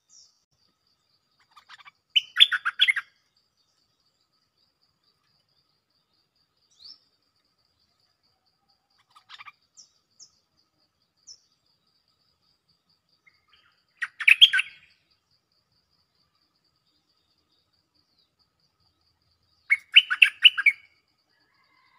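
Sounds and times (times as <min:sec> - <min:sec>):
bird chirping: 0:00.0 - 0:21.9.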